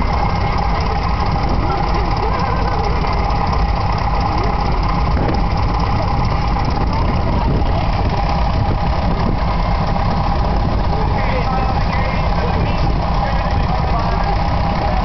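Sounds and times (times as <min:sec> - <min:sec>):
tractor engines rumbling: 0:00.0 - 0:15.0.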